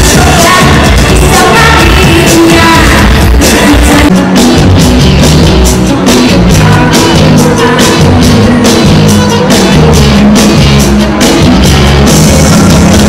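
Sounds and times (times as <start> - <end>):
person singing: 0.0 - 5.0, 5.7 - 11.3
live rock-pop music: 0.0 - 13.0.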